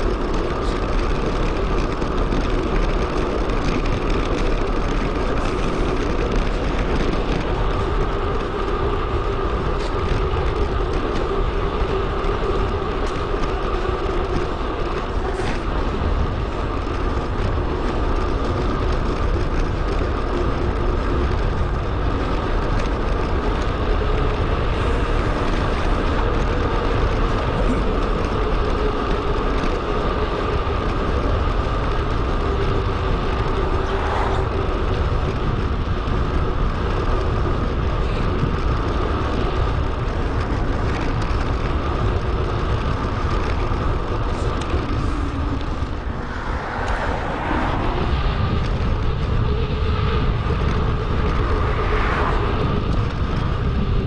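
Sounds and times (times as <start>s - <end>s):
bicycle road noise: 0.0s - 54.0s
wind: 0.0s - 54.0s.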